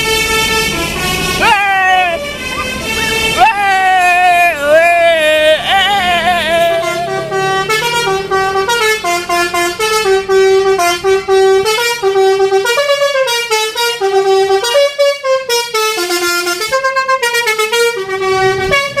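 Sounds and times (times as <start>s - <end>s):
multi-tone bus horn melody: 0.0s - 19.0s.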